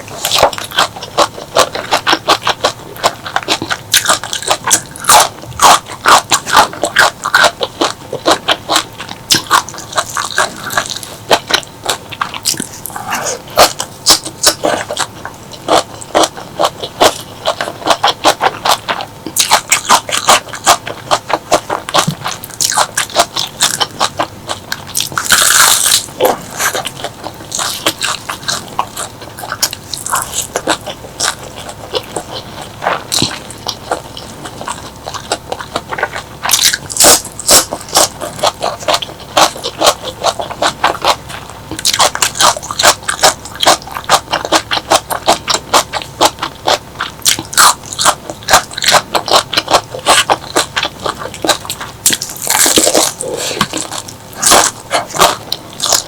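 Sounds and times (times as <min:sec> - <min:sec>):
chewing and crunching crisp food: 0:00.0 - 0:56.0.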